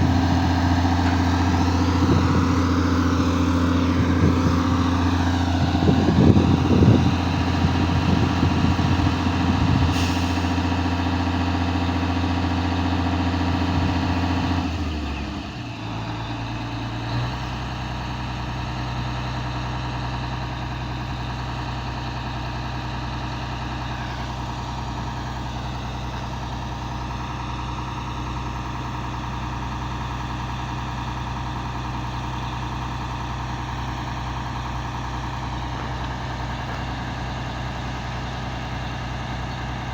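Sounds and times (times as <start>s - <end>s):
heavy machine engine idling: 0.0s - 39.9s.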